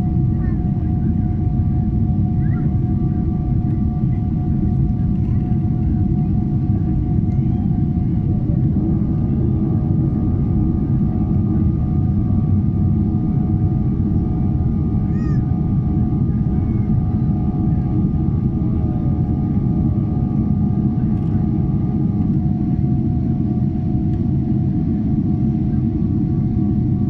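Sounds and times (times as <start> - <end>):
aircraft engines roaring: 0.0 - 27.0.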